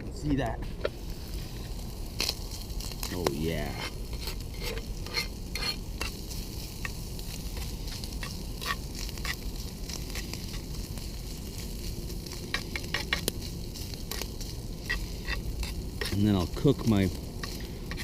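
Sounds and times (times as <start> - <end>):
meat sizzling with pops: 0.0 - 18.0.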